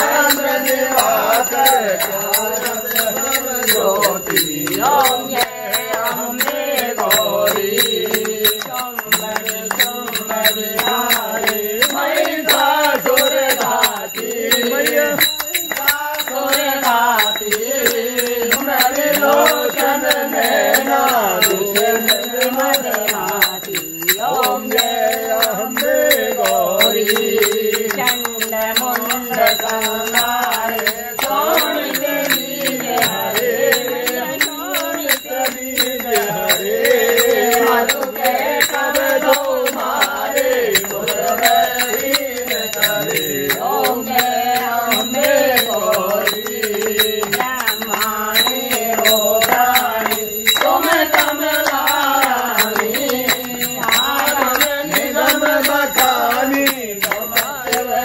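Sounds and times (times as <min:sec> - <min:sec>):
voices chanting: 0:00.0 - 0:58.0.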